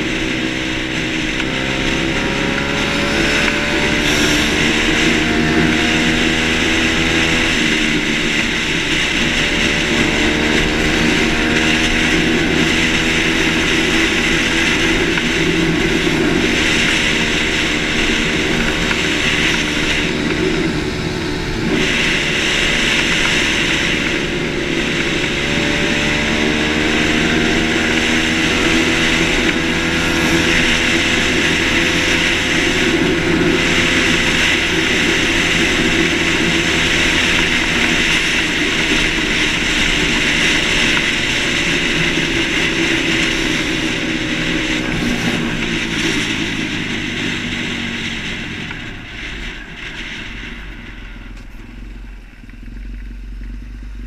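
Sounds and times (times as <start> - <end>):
wind rushing: 0.0 - 52.0
motocross bike engine running: 0.0 - 54.0.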